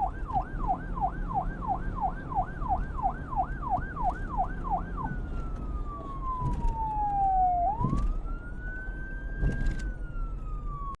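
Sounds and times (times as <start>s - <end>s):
police siren wailing: 0.0s - 11.0s.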